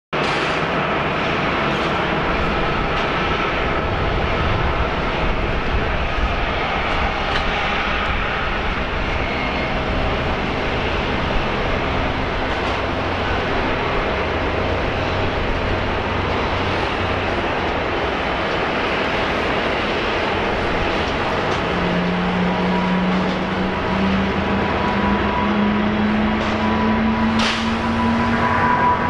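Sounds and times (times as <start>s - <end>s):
jet engines running: 0.2s - 29.0s.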